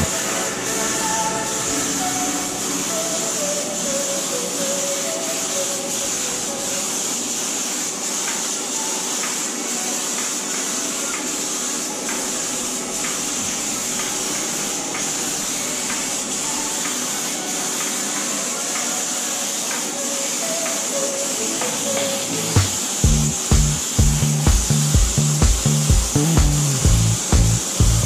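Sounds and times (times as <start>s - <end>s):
spray gun hissing: 0.0s - 28.0s
turbine blower hum: 0.0s - 28.0s.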